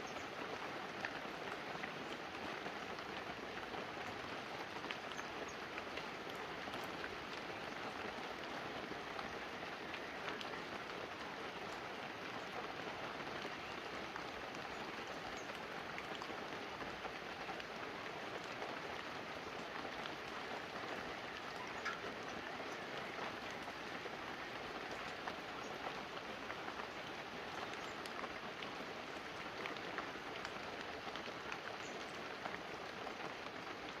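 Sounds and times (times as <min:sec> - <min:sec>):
light rain on leaves and roof: 0:00.0 - 0:34.0.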